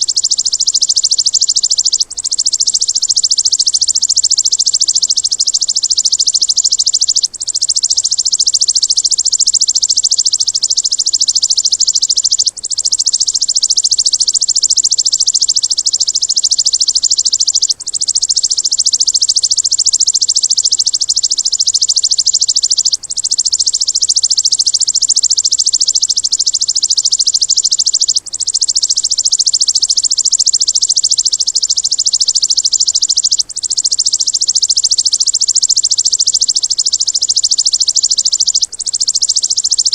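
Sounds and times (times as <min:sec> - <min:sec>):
rapid high-pitched bird trill: 0:00.0 - 0:39.9.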